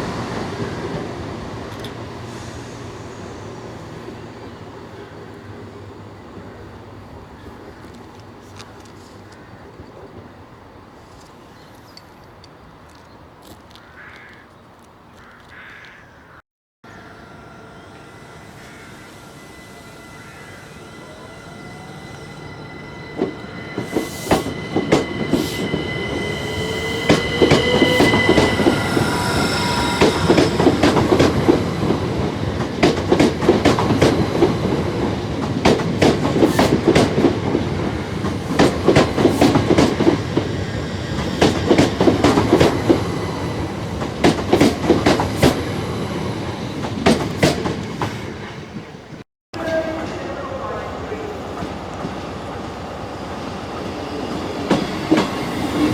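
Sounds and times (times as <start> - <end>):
train whine and high tones: 0.0 - 13.0, 16.8 - 55.9.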